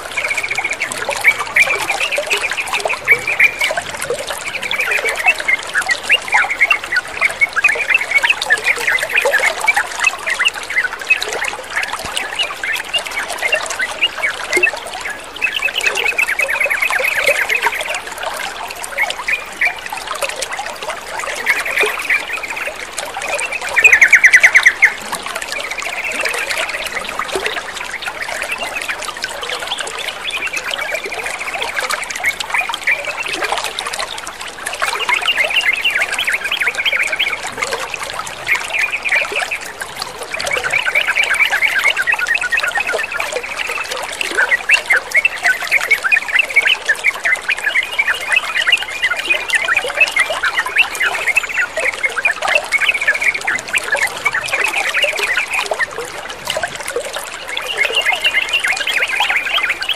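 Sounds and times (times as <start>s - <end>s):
trickling water: 0.0s - 59.9s.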